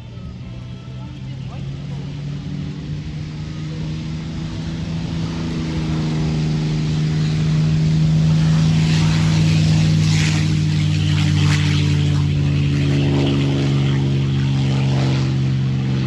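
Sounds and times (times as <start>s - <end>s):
propeller aircraft engine running: 0.0s - 16.0s.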